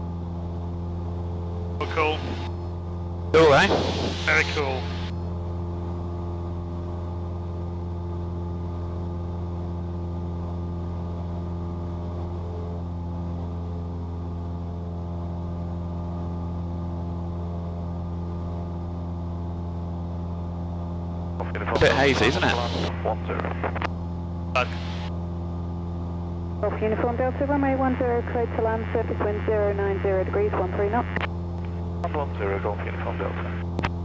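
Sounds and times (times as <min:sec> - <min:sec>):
propeller airplane engine droning: 0:00.0 - 0:34.0.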